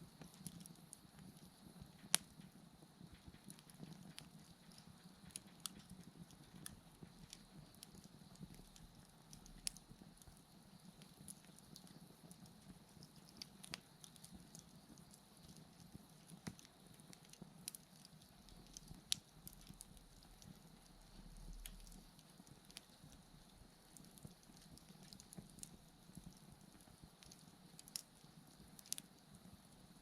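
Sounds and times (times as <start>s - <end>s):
bonfire crackling and popping: 0.0s - 30.0s.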